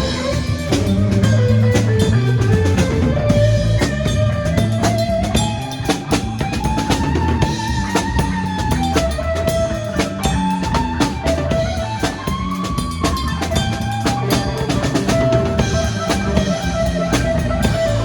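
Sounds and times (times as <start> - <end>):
bass and rhythm guitar: 0.0 - 18.0
drum kit: 0.0 - 18.0
lead guitar bending notes: 0.0 - 18.0.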